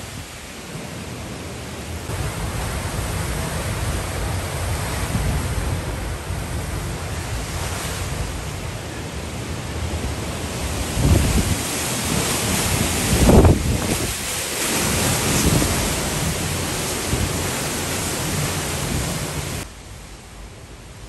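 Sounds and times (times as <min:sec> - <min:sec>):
wind buffeting microphone: 0:00.0 - 0:19.7
wind and heavy rain rushing: 0:00.0 - 0:21.0.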